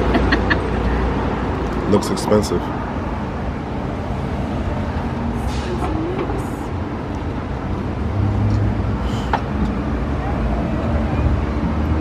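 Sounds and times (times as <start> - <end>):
low engine hum: 0.0 - 12.0
passing vehicles rumble: 0.0 - 12.0.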